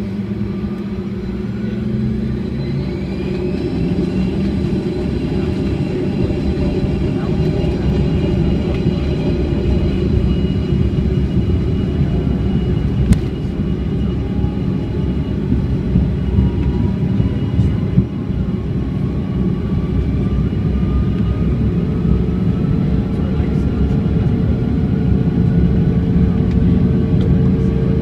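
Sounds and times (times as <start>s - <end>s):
faint engine whine: 0.0s - 28.0s
jet engine low rumble: 0.0s - 28.0s.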